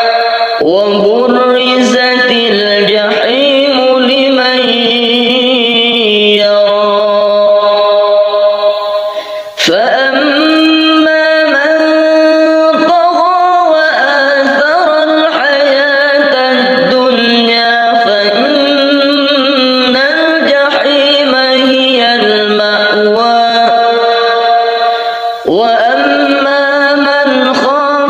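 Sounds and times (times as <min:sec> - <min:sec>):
person chanting melodiously: 0:00.0 - 0:28.0.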